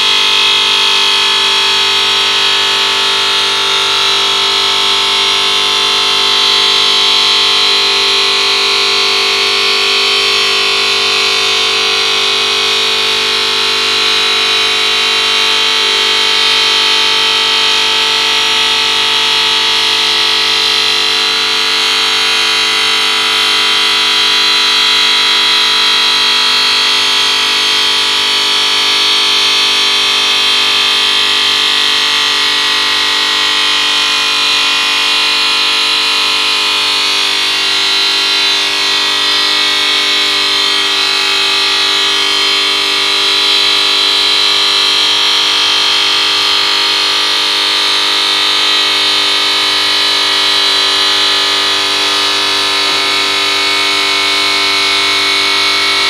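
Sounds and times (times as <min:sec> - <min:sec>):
stone saw high whine: 0:00.0 - 0:56.0.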